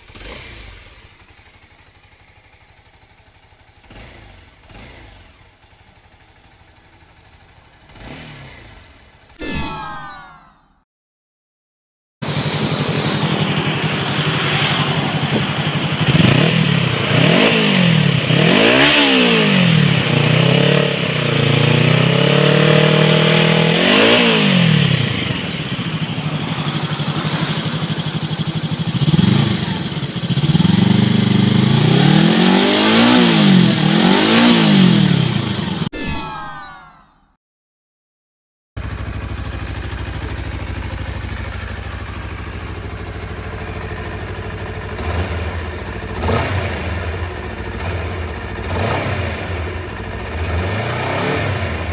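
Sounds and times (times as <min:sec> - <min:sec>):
motorcycle engine revving: 0:00.0 - 0:09.4, 0:12.2 - 0:35.9, 0:38.8 - 0:51.9.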